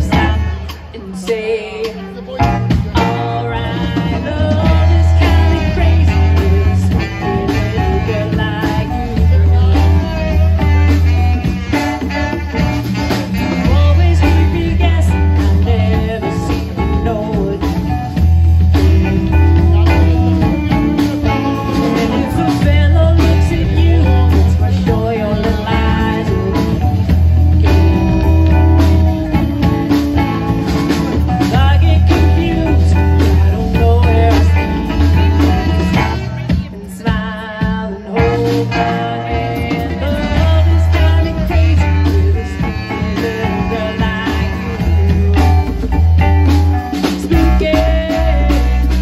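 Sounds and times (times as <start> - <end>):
bass guitar: 0.0 - 49.0
drum kit: 0.0 - 49.0
electric guitar: 0.0 - 49.0
person singing: 0.0 - 49.0.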